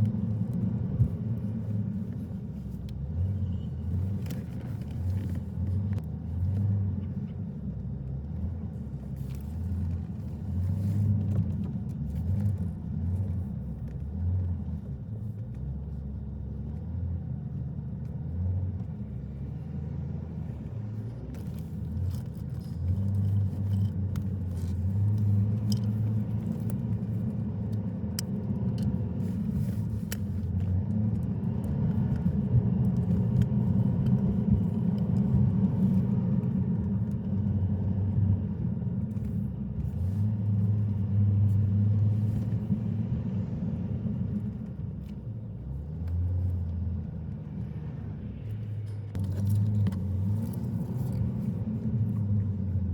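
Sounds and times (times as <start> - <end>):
car road rumble: 0.0 - 52.9.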